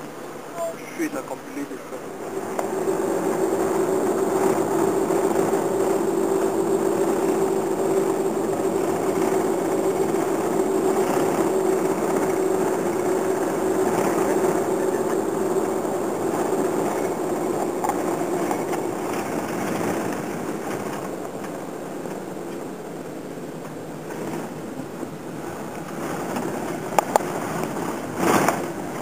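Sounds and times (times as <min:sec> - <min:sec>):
bus engine drone: 0:00.0 - 0:29.0
low hum: 0:00.0 - 0:29.0
road rumble: 0:00.0 - 0:29.0.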